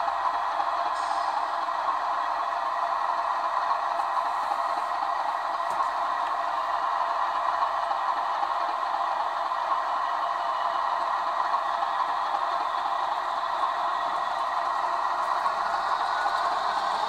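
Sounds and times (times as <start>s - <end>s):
diesel engine idle through small speaker: 0.0s - 17.0s.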